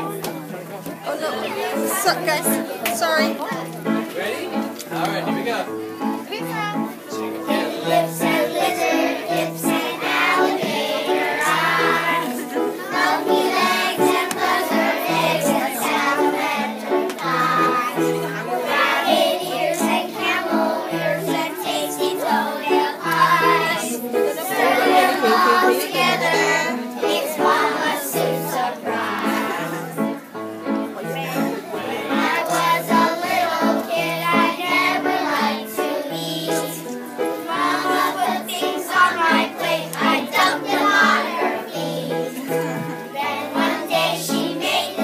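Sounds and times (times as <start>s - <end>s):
instrumental accompaniment: 0.0s - 45.0s
children singing: 7.1s - 45.0s.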